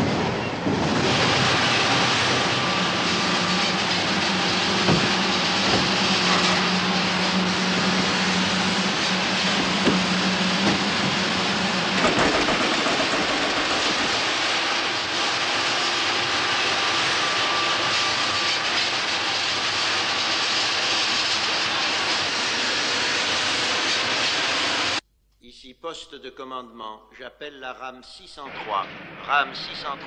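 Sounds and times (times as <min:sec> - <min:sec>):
train rolling at speed: 0:00.0 - 0:25.0.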